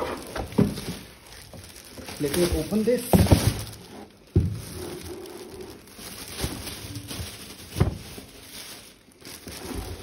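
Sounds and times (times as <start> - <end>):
rustling and scraping packaging: 0.0 - 10.0.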